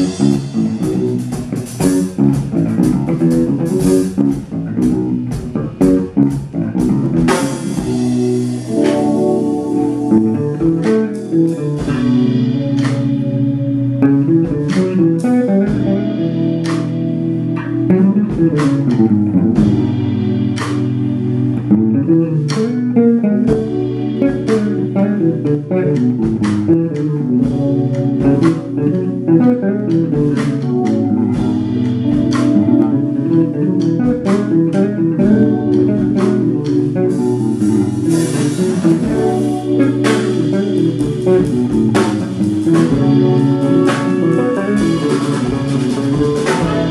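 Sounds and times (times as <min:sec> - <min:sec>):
electric bass guitar playing: 0:00.0 - 0:46.9.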